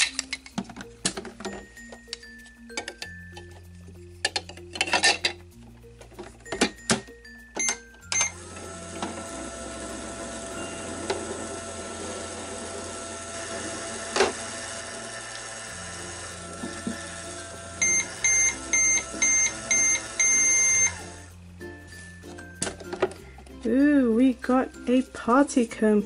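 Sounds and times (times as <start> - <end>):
toy microwave electronic hum: 0.0 - 23.4.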